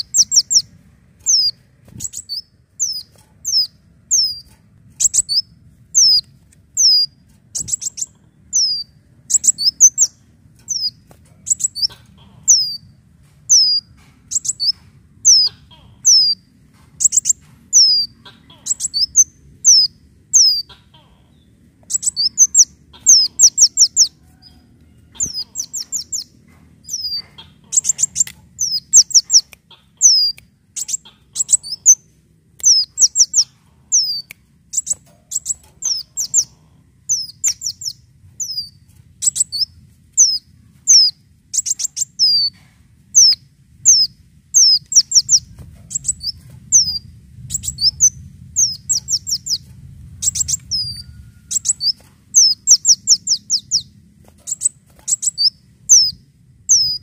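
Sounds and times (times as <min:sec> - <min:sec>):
sunbird singing: 0:00.0 - 0:12.9, 0:13.5 - 0:24.6, 0:25.2 - 0:57.0.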